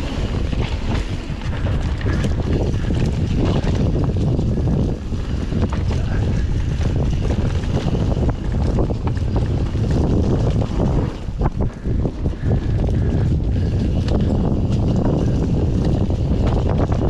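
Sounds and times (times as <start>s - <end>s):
bike clicks and rattles: 0.0s - 17.0s
tyres rolling over leaves and dirt: 0.0s - 17.0s
wind on microphone: 0.0s - 17.0s.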